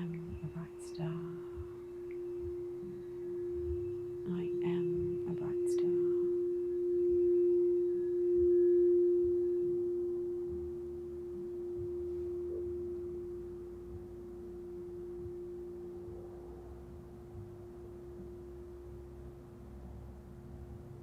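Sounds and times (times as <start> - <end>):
sustained pure ringing tone: 0.0 - 21.0.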